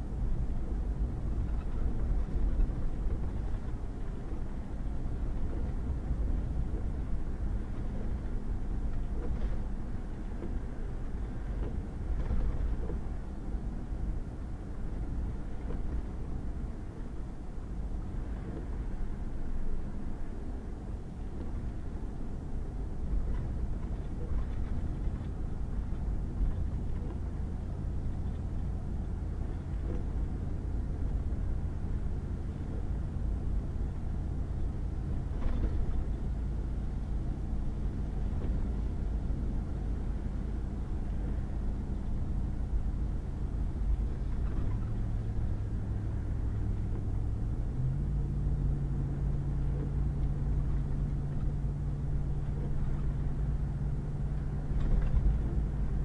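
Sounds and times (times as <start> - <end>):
truck engine and tyres rumbling: 0.0 - 56.0.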